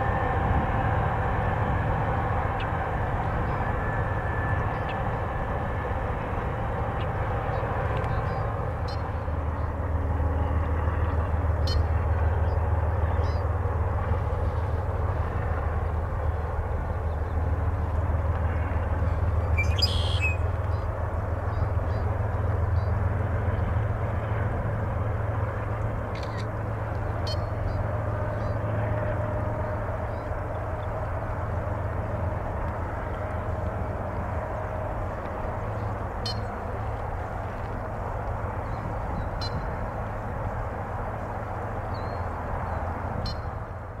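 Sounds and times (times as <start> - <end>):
distant diesel locomotives droning: 0.0 - 44.0
train rumble: 0.0 - 44.0.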